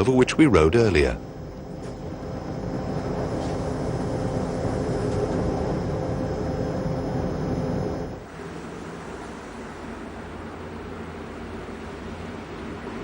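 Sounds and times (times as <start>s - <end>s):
faint electric hum: 0.0s - 11.0s
train wheels rumbling on rails: 0.0s - 13.0s.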